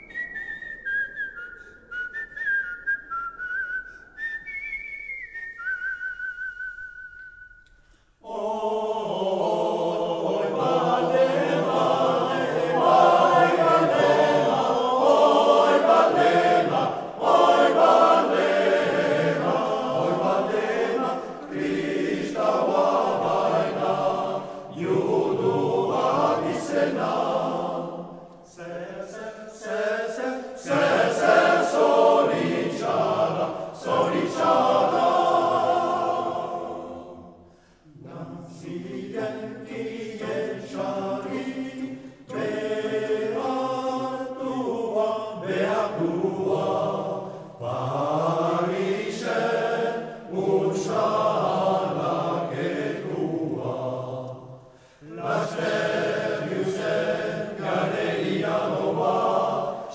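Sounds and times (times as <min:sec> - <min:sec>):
male choir singing a cappella: 0:08.2 - 0:59.9.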